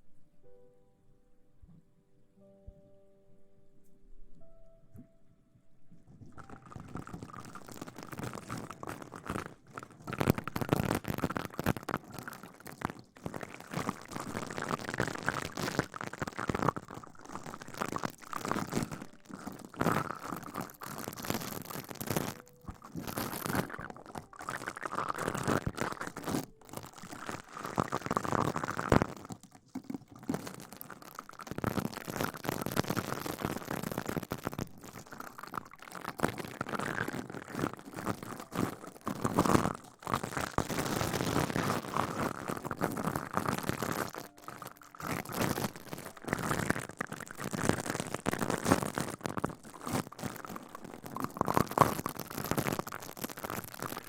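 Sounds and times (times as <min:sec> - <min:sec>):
rustling and crinkling: 0:05.9 - 0:54.0.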